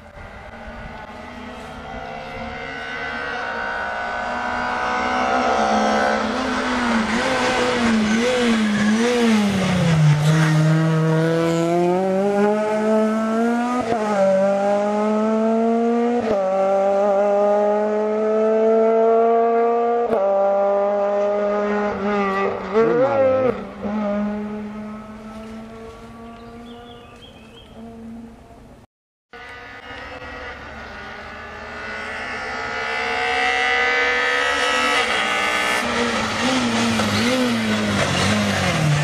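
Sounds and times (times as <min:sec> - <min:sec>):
rally car engine revving: 0:00.0 - 0:27.0, 0:29.4 - 0:39.0.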